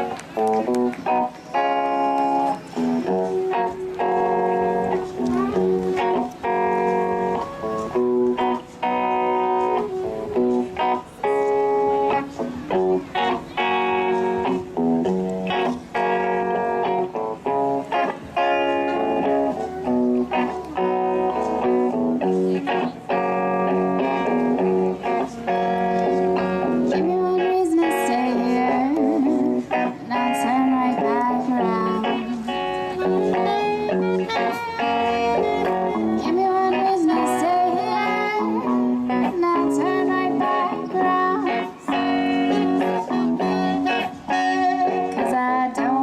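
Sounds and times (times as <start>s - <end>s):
blues band playing: 0.0s - 46.0s
electric guitar: 0.0s - 46.0s.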